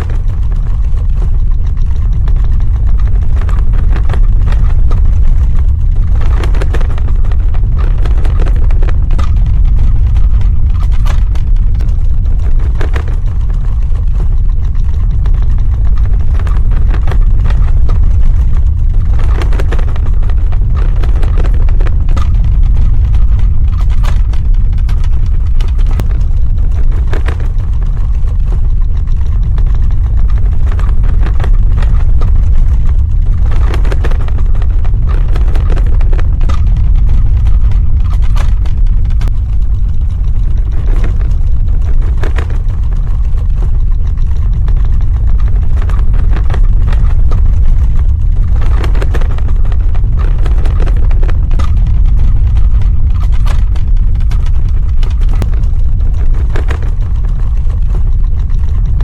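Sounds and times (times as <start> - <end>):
crackling and rattling: 0.0 - 59.0
deep earthquake rumble: 0.0 - 59.0.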